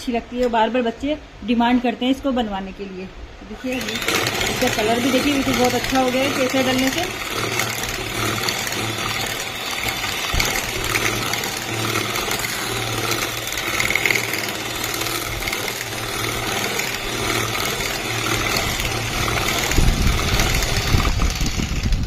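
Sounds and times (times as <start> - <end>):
electric hand mixer running: 3.6 - 22.0.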